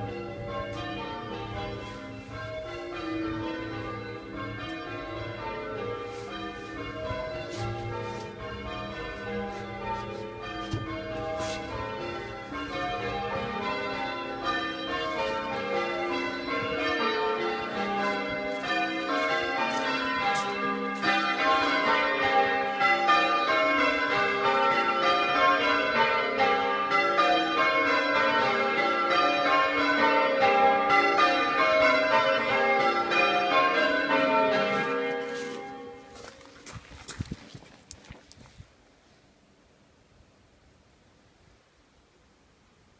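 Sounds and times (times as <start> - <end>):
church bells ringing changes: 0.0 - 36.7.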